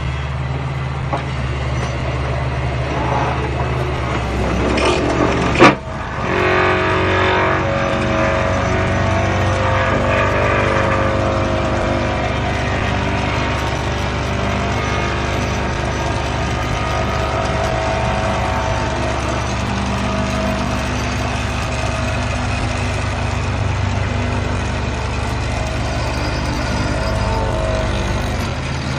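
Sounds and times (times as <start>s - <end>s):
diesel engine under load: 0.0s - 28.9s
vibratory pile driver running: 0.0s - 28.9s.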